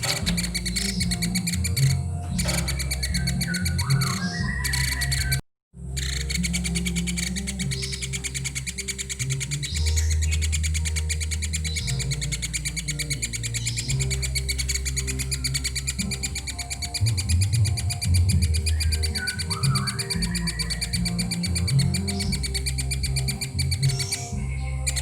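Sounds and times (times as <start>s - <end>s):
background music: 0.0s - 25.0s
young woodpecker chittering: 0.0s - 25.0s.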